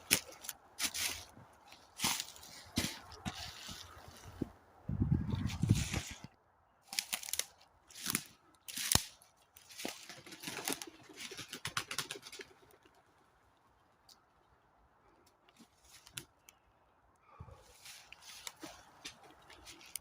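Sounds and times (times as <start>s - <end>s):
rustling and crunching: 0.0s - 4.6s, 5.2s - 14.5s, 15.4s - 16.5s, 17.3s - 20.0s.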